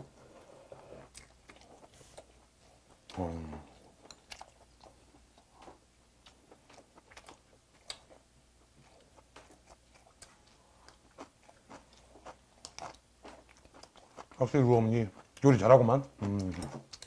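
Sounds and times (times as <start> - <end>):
man chewing food: 0.0 - 17.0.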